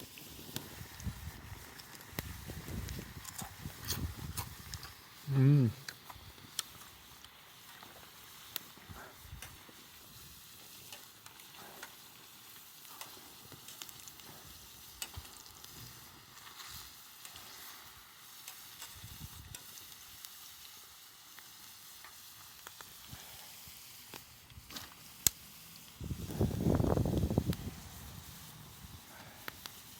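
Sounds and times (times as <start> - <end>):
food sizzling in a pan: 0.0 - 29.9
small crackles: 0.0 - 29.9.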